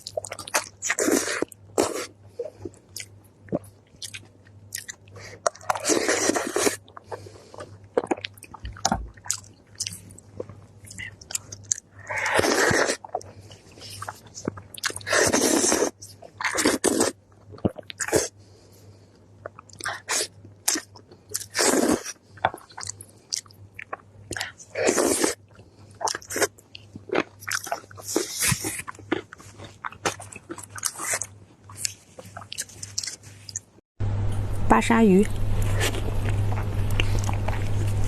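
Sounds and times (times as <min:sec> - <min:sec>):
person crunching and chewing food: 0:00.0 - 0:18.6, 0:19.4 - 0:33.8, 0:35.4 - 0:38.0.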